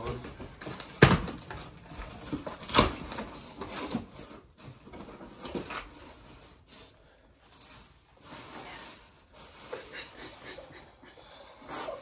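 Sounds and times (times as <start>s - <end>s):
cardboard and tissue paper rustling: 0.0s - 11.0s.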